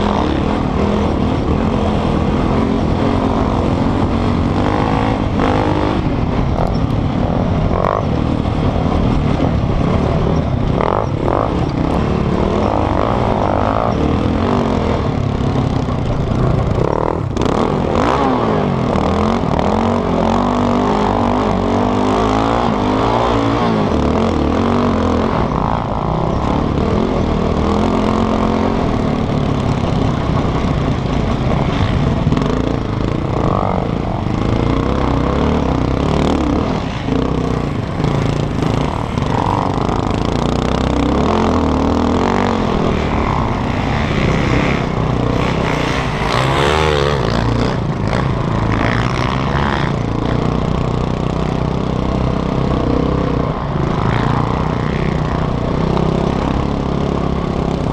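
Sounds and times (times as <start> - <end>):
quad engine revving: 0.0 - 57.9.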